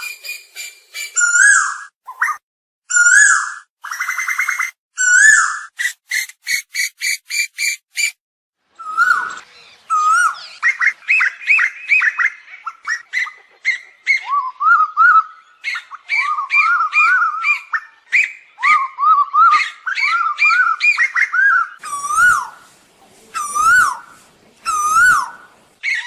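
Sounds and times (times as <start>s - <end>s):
birds whistling rising and falling: 0.0s - 8.1s, 8.8s - 22.7s, 23.4s - 26.0s.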